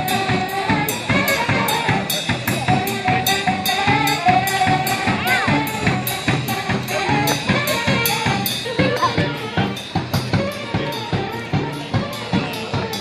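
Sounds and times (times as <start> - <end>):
brass band playing: 0.0 - 13.0
sousaphone bass line: 0.0 - 13.0
steady drumbeat: 0.0 - 13.0.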